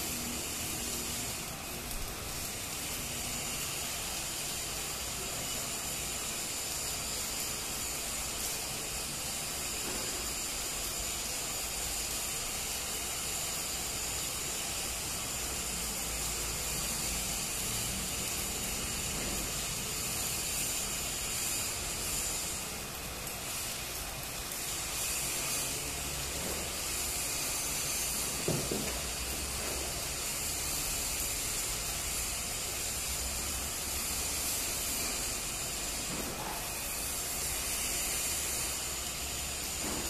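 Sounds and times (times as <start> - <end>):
welding arc hissing: 0.0 - 40.0.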